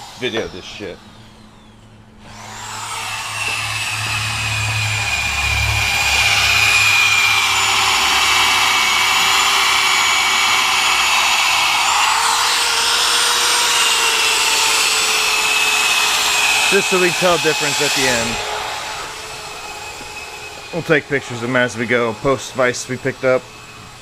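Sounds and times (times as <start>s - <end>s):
handheld power tool whining: 0.0s - 24.0s.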